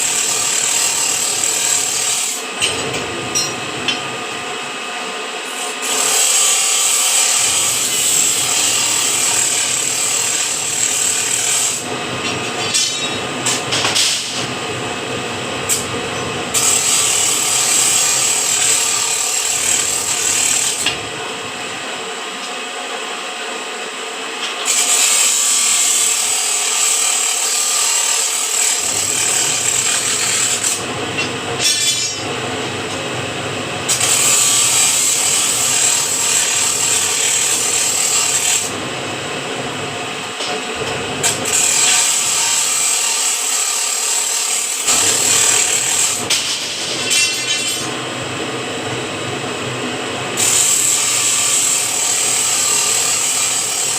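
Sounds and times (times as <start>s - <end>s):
band saw cutting steel: 0.0s - 4.8s, 5.4s - 14.7s, 15.4s - 21.4s, 24.4s - 33.2s, 33.8s - 49.1s, 50.3s - 53.9s.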